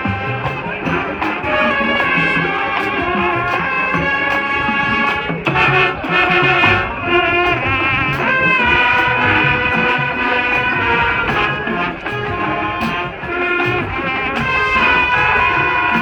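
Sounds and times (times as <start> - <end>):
brass sustaining chords: 0.0 - 16.0
drumline hits: 0.0 - 16.0.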